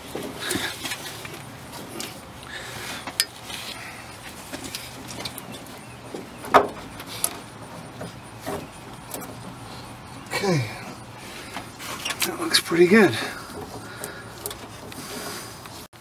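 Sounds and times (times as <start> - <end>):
rubber hose handling rustle: 0.0 - 16.0.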